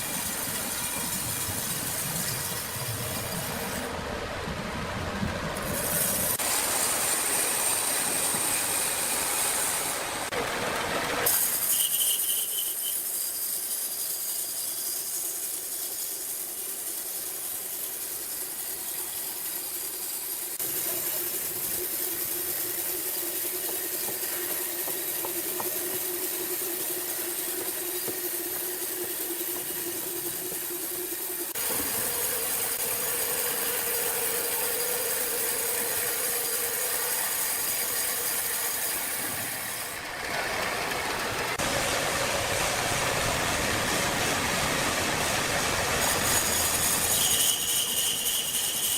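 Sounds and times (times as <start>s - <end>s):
sawmill machine hum: 0.0s - 48.9s.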